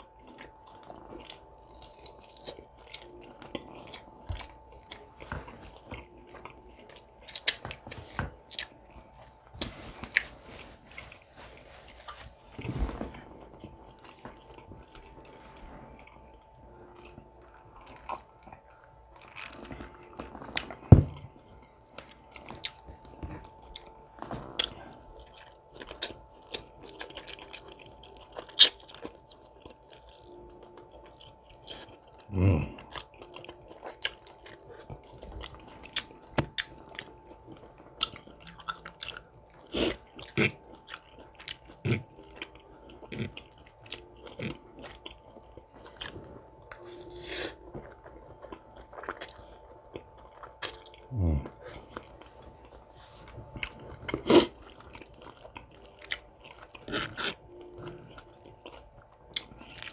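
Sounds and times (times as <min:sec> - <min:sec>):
wet chewing: 0:00.0 - 0:52.9, 0:53.6 - 0:59.9
faint steady tone: 0:00.0 - 0:59.9.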